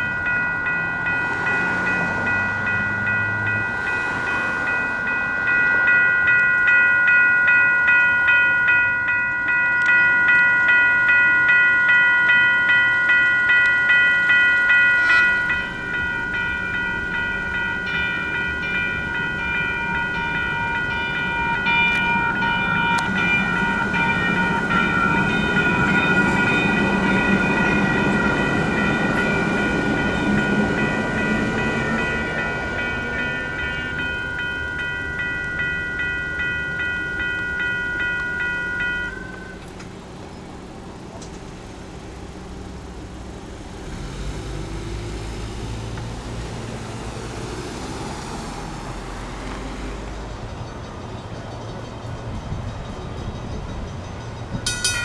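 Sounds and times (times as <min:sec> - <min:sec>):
crossing warning bell ringing: 0:00.0 - 0:44.9, 0:46.2 - 0:55.0
passing train rumble: 0:00.0 - 0:55.0.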